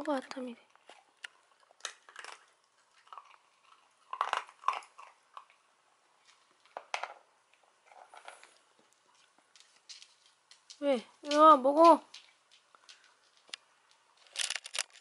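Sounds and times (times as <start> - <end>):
cat crunching dry treats: 0.7 - 15.0.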